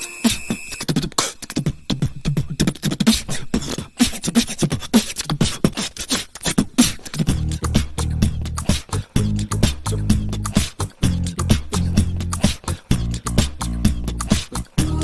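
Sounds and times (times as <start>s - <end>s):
beatboxing thumps and clicks: 0.0s - 15.0s.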